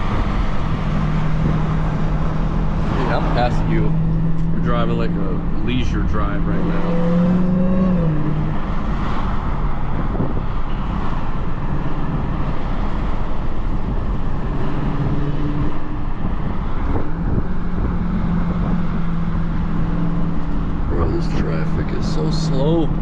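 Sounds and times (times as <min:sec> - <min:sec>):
car engine low drone: 0:00.0 - 0:23.0.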